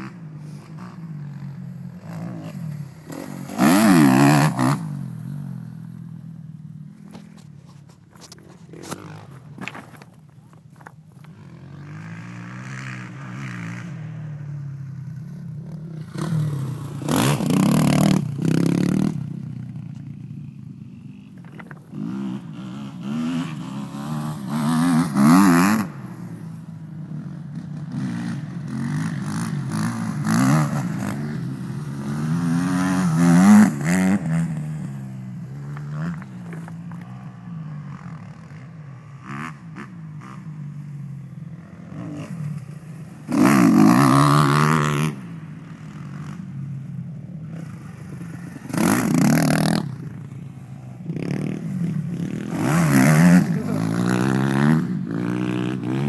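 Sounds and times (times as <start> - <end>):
motocross bikes revving: 0.0 - 56.0.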